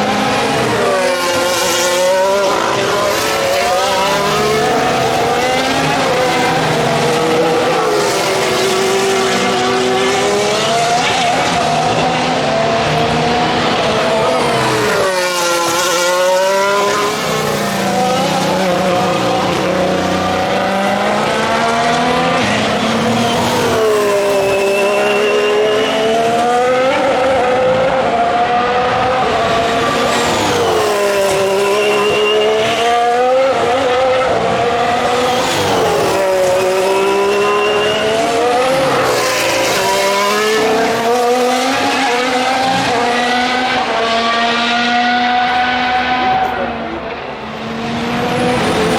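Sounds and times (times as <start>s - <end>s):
racing cars passing: 0.0s - 48.9s.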